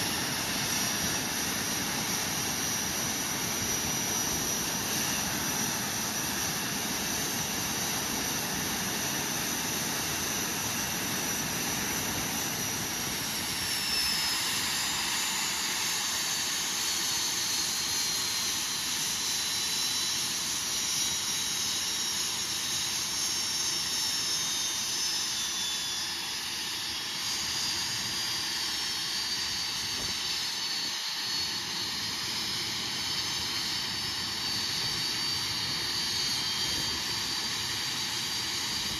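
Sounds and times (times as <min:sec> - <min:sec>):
jet engine roar: 0:00.0 - 0:38.9
turbine whine: 0:00.0 - 0:38.9.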